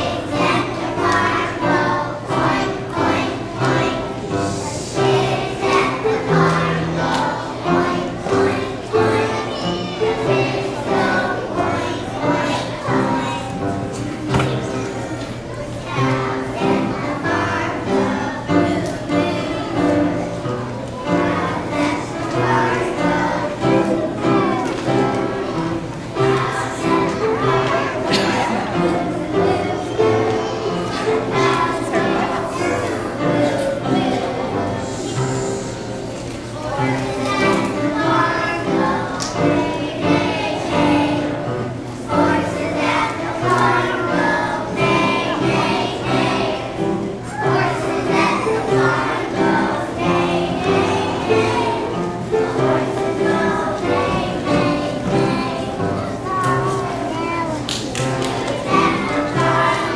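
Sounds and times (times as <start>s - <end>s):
children singing together: 0.0s - 59.9s
musical accompaniment: 0.0s - 59.9s.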